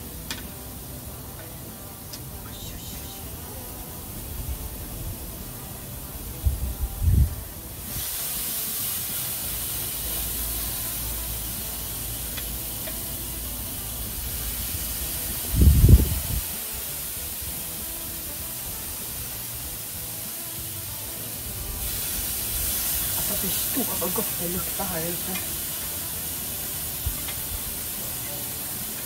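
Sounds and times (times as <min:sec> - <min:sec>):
meat sizzling on a grill: 0:00.0 - 0:29.0.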